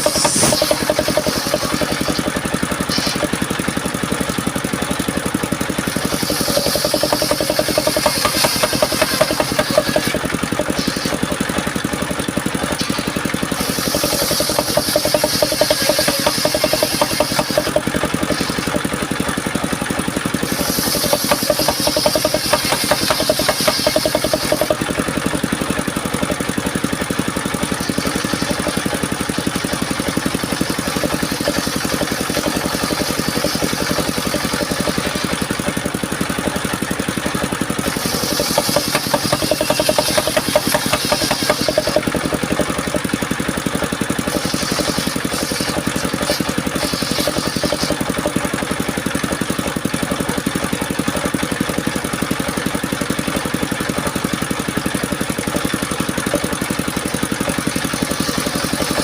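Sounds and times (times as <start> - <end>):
saw blade hissing through wood: 0.0 - 3.9, 5.6 - 49.9, 53.0 - 59.0
sawmill engine knocking: 0.0 - 59.0.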